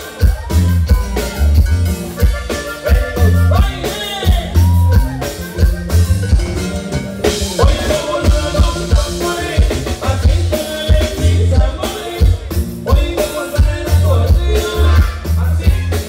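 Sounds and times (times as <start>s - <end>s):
live band playing dance music: 0.0s - 16.0s.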